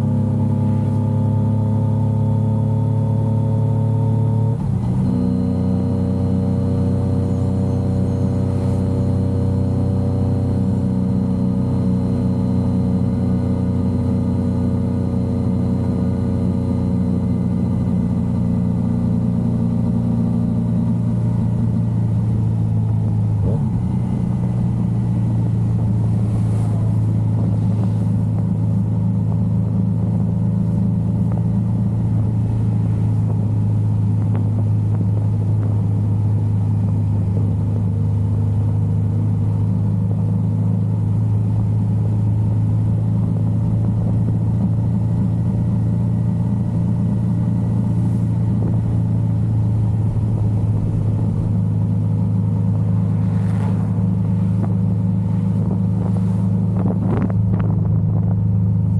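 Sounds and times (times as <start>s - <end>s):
motorcycle engine running steadily: 0.0s - 58.9s.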